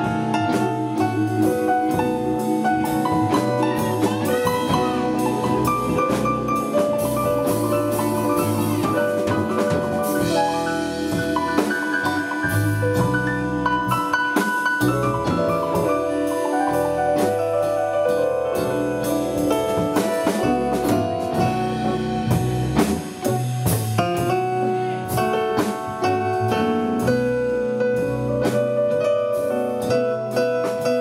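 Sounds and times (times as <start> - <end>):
blues band playing: 0.0 - 31.0
drum kit beat: 0.0 - 31.0
piano or keyboard: 0.0 - 31.0.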